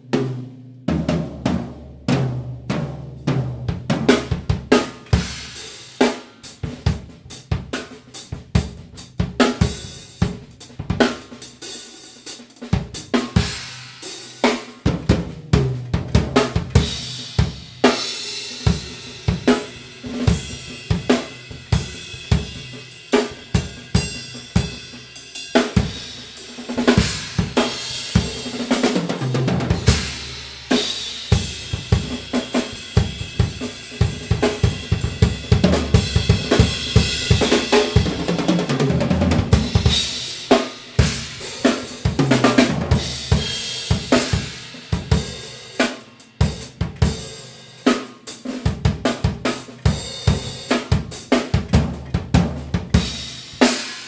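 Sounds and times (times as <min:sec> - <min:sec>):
drum kit groove with tom fills: 0:00.0 - 0:54.0.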